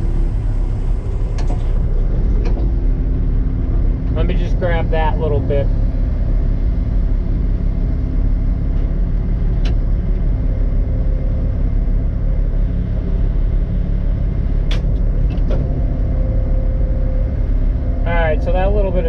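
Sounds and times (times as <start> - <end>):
excavator diesel engine rumbling: 0.0 - 19.0.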